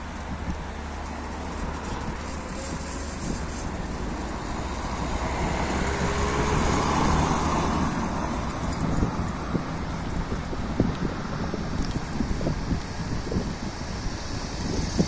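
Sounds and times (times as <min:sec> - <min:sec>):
tyres rolling over rough asphalt: 0:00.0 - 0:15.0
wind buffeting microphone: 0:00.0 - 0:15.0.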